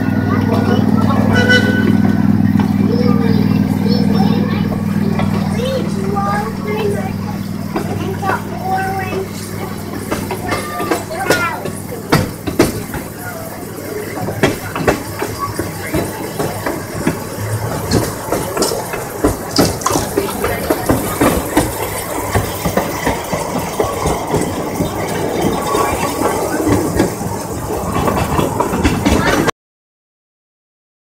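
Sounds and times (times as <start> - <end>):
steam locomotive exhaust chuffs: 0.0 - 29.5
train rattle: 0.0 - 29.5.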